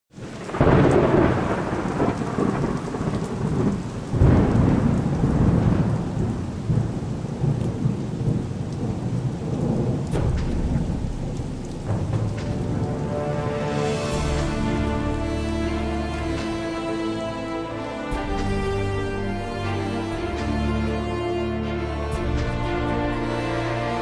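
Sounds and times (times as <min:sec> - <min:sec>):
steady rain: 0:00.1 - 0:24.0
thunder rumbling: 0:00.1 - 0:24.0.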